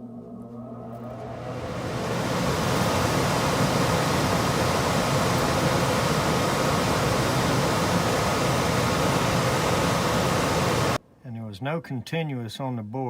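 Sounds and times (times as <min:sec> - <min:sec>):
furnace blower running: 0:00.0 - 0:11.0.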